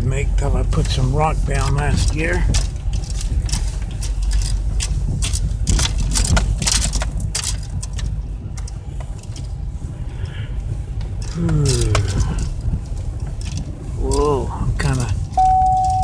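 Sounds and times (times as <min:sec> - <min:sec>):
low rumble of engine and road: 0:00.0 - 0:16.0
rocks crunching under tyres: 0:00.0 - 0:16.0.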